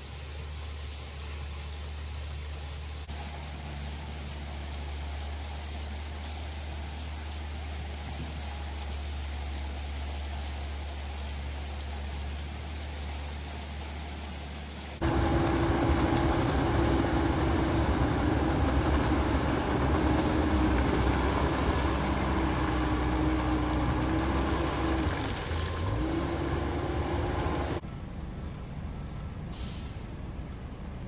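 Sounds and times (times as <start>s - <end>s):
low hiss and hum: 0.0s - 31.0s
bulldozer diesel engine running: 3.0s - 29.5s.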